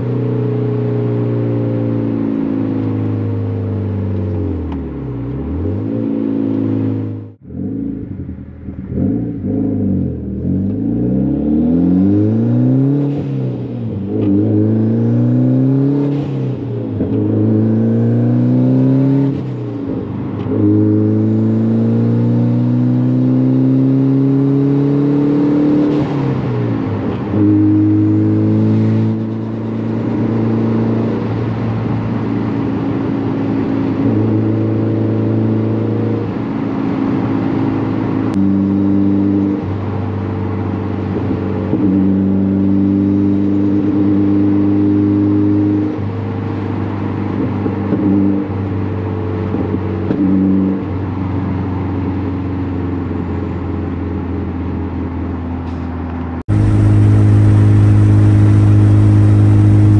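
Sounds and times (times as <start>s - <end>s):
car engine accelerating: 0.0s - 48.7s, 52.7s - 59.9s.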